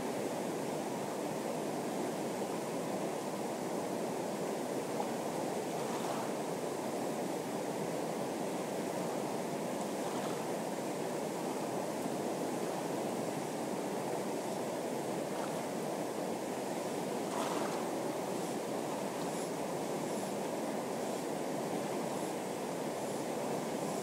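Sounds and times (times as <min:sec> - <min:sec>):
river rushing over rocks: 0:02.1 - 0:24.0.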